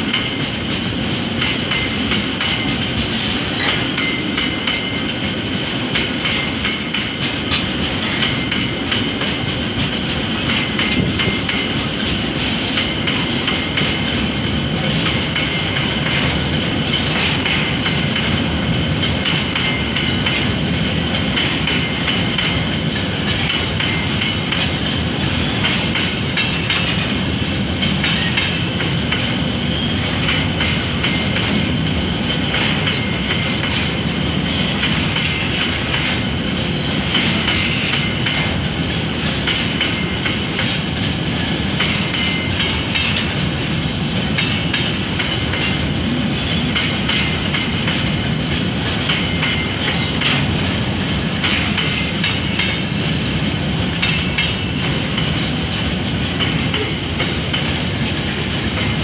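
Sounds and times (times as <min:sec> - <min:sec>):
clickety-clack over rail joints: 0:00.0 - 0:59.0
train wheels rumbling on rails: 0:00.0 - 0:59.0.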